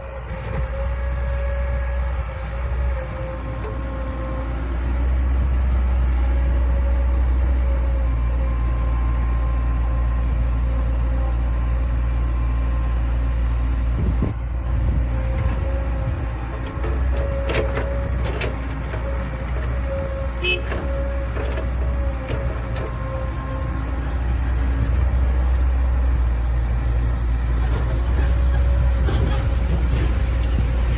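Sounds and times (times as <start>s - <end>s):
diesel machinery humming: 0.0s - 30.9s
machinery whine: 0.0s - 30.9s.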